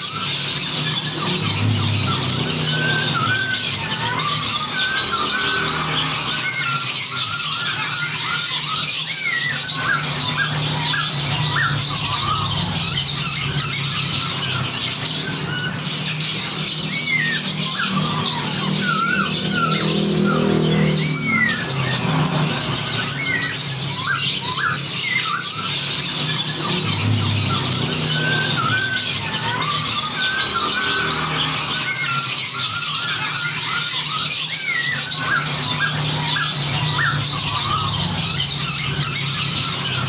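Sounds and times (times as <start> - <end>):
songbirds chattering and whistling: 0.0 - 40.0.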